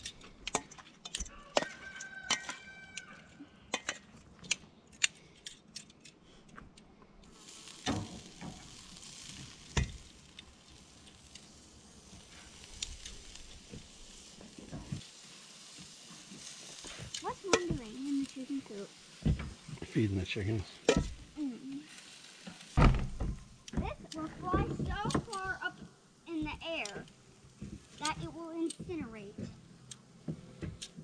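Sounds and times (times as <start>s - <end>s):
shrimp sizzling on grill: 0.0s - 4.6s, 7.2s - 31.0s.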